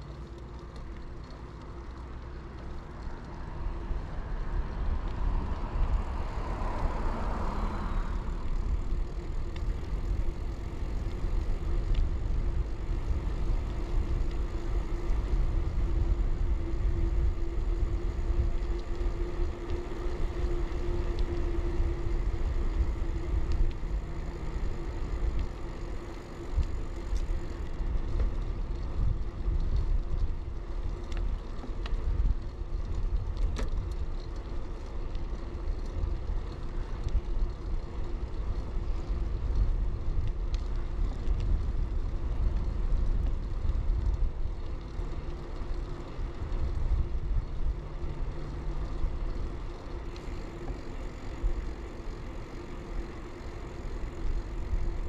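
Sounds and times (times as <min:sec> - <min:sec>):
bike tyre road noise: 0:00.0 - 0:55.0
wind rumble: 0:00.0 - 0:55.0.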